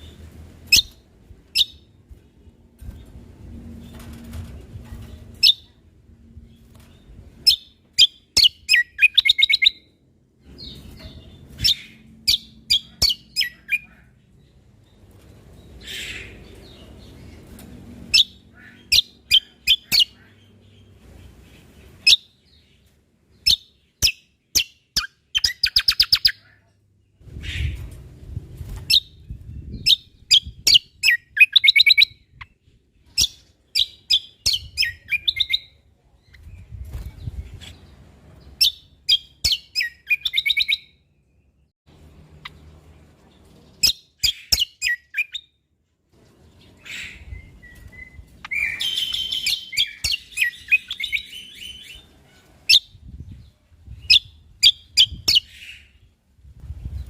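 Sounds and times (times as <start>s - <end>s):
songbird chirping and trilling: 0.0s - 3.1s, 3.9s - 45.6s, 46.2s - 57.0s.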